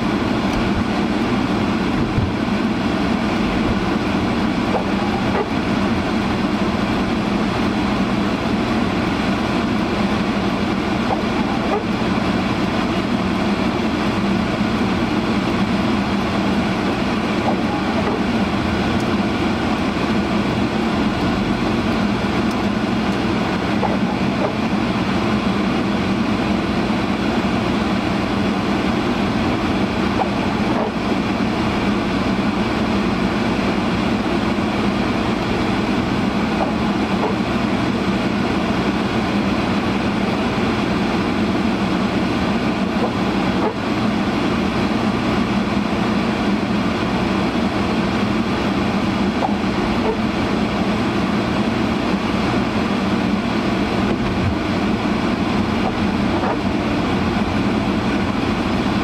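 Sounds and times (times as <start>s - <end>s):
car defroster fan blowing: 0.0s - 59.0s
car driving: 0.0s - 59.0s.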